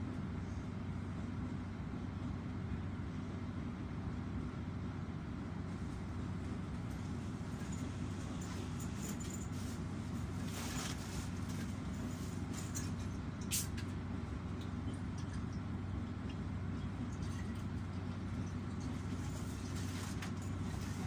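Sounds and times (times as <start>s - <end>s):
low hum inside train: 0.0s - 21.0s.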